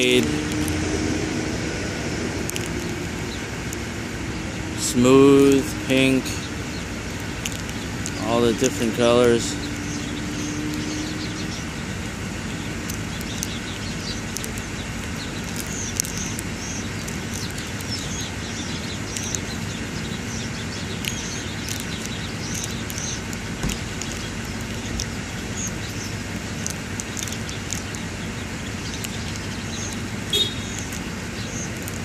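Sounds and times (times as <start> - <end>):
small birds chirping: 0.0 - 32.0
vehicle hum: 0.0 - 32.0.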